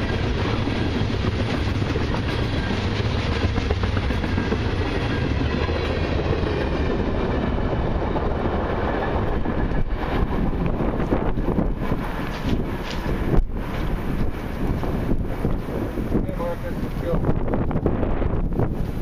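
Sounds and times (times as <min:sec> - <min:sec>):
freight train wheels clattering: 0:00.0 - 0:17.8.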